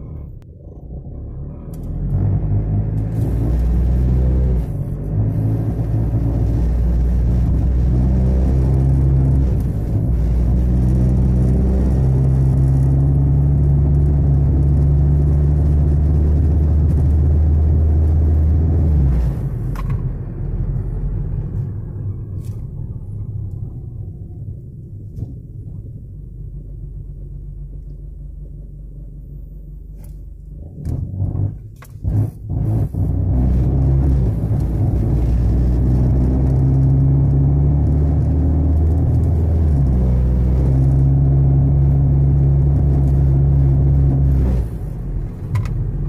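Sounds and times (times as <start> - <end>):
car cabin low rumble and drone: 0.0 - 46.0.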